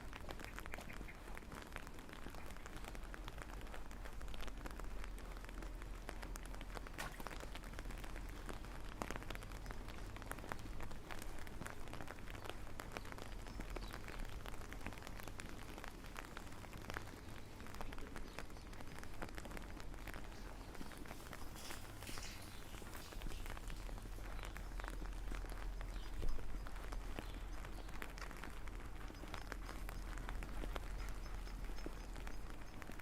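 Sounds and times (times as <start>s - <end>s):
raindrops ticking on surfaces: 0.0s - 33.0s
steady rain falling: 0.0s - 33.0s.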